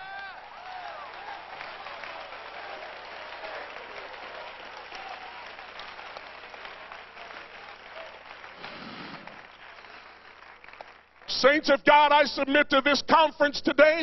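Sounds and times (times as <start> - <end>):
congregation applauding: 0.0 - 12.2.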